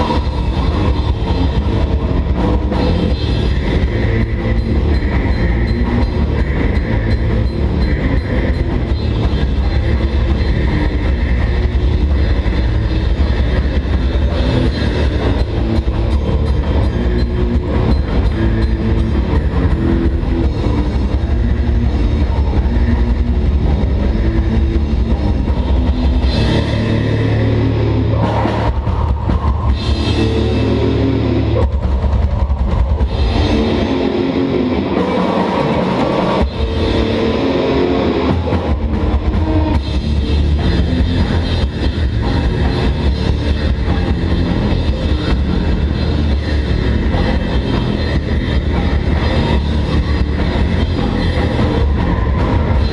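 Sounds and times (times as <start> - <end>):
distorted guitars: 0.0 - 52.9
drums: 0.0 - 52.9
heavy metal band playing live: 0.0 - 52.9.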